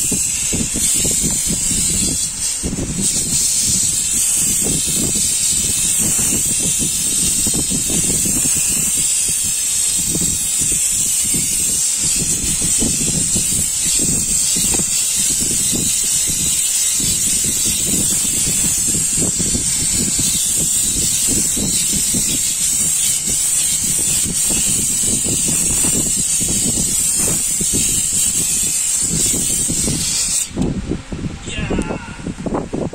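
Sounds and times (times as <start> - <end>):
steam cleaner hissing: 0.0 - 30.6.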